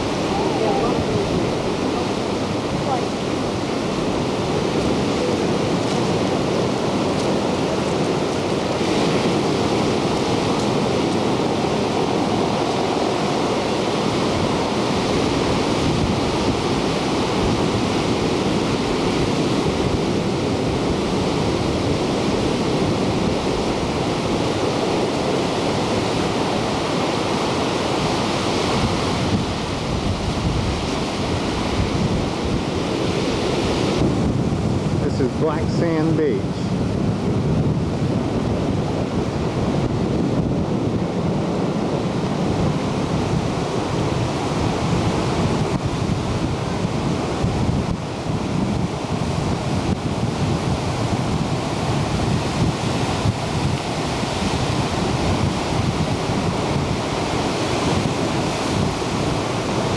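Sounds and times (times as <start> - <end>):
ocean surf breaking on rocks: 0.0 - 59.9.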